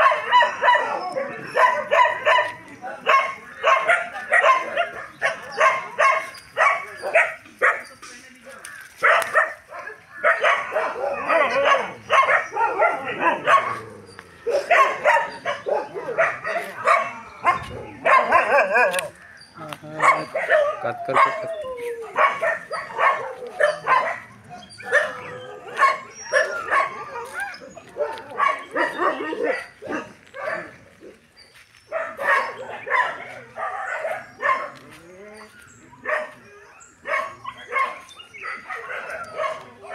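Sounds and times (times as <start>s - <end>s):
dogs barking: 0.0s - 8.0s, 8.9s - 39.9s.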